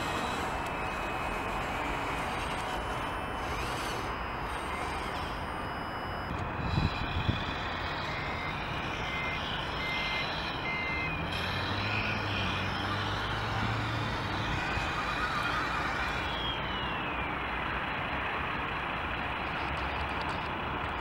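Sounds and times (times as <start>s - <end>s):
reversing alarm beeps: 0.0s - 17.6s
simulated diesel engine: 0.0s - 21.0s.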